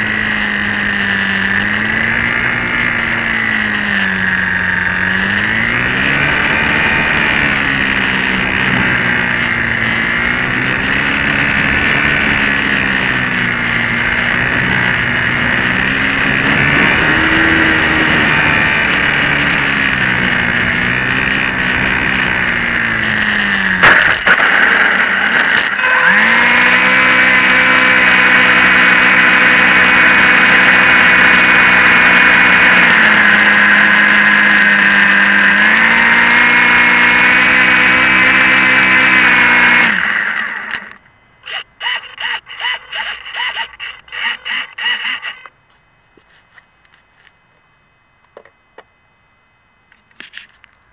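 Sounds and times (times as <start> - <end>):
small electric motor whining: 0.0 - 23.8, 24.5 - 45.6.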